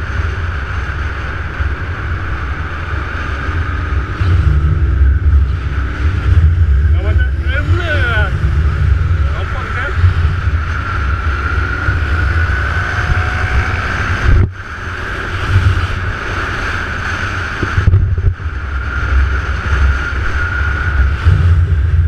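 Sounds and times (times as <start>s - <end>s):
motorbike engine drone: 0.0s - 22.0s
wind buffeting microphone: 0.0s - 22.0s.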